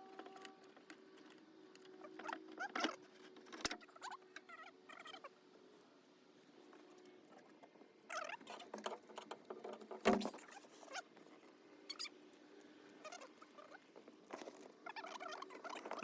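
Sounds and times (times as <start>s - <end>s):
small parts clicking and squeaking: 0.0s - 5.4s, 6.7s - 16.0s.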